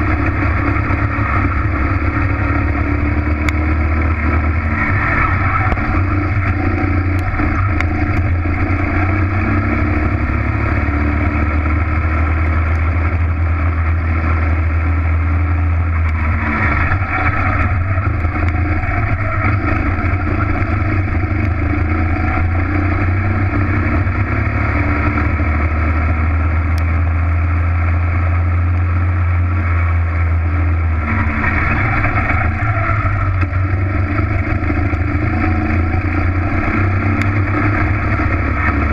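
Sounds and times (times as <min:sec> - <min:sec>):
kart engine running: 0:00.0 - 0:38.9.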